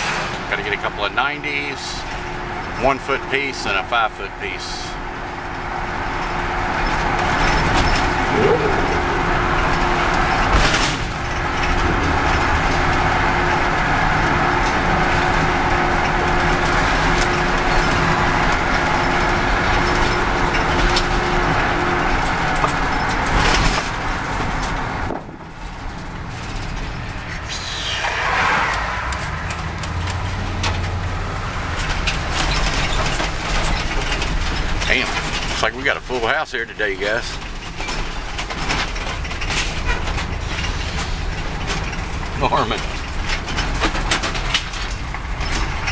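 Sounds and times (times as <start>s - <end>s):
engine and tyre noise: 0.0s - 45.9s.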